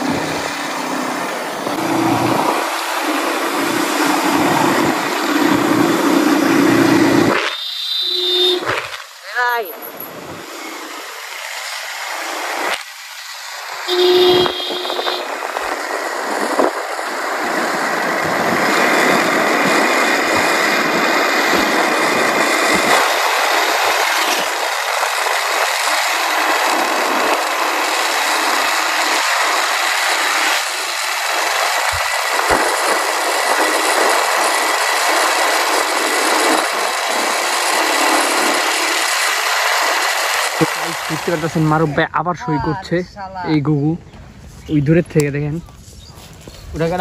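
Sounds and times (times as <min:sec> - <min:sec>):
motorcycle engine: 0:00.0 - 0:41.9
wind and road noise hiss: 0:00.0 - 0:47.0.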